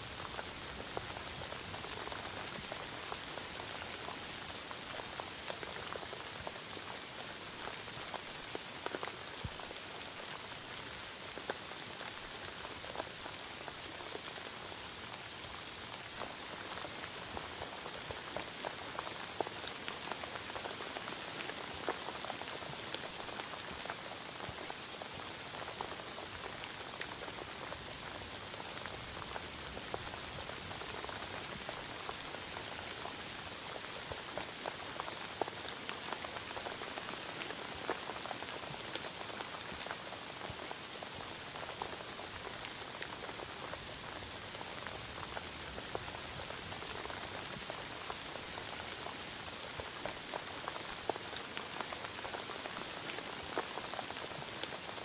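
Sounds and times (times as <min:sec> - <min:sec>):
rain hiss: 0:00.0 - 0:55.0
raindrop ticks: 0:00.2 - 0:55.0.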